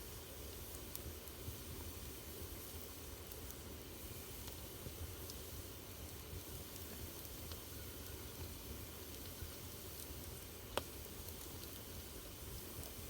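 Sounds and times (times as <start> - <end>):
wood fire hissing and crackling: 0.0 - 13.0.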